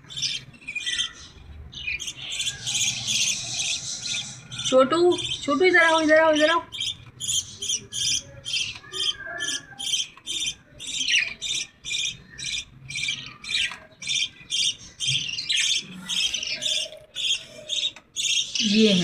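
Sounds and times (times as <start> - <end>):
young birds calling: 0.0 - 19.0.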